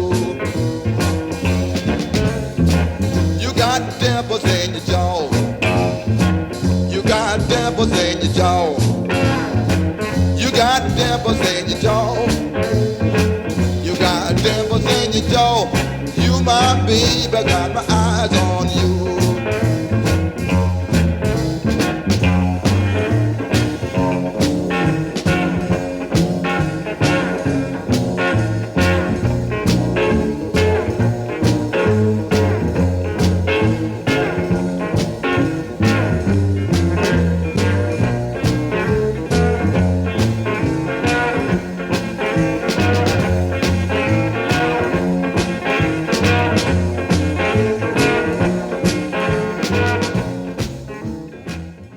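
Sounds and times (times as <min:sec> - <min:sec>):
blues-swing instrumental music: 0:00.0 - 0:51.9.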